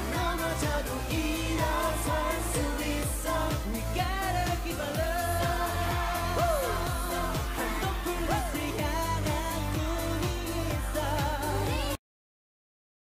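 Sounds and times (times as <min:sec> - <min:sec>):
pop backing track with drum beat: 0:00.0 - 0:12.0
voices singing pop song: 0:00.0 - 0:12.0.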